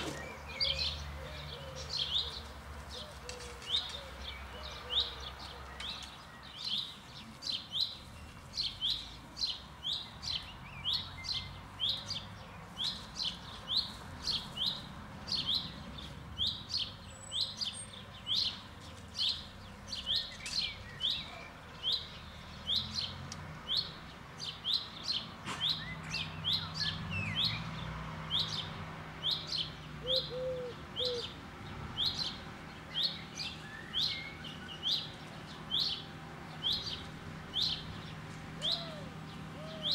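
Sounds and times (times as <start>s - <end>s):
small songbird chirping: 0.0s - 39.9s.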